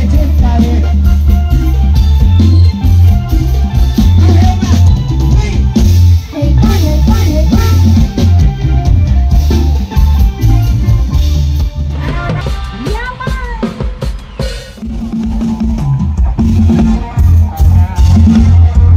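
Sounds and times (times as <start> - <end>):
heavy steady bass beat: 0.0 - 13.7, 14.4 - 18.9.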